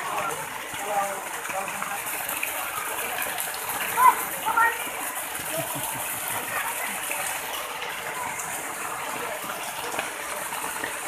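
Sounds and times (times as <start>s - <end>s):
heavy rain and running water: 0.0s - 11.0s.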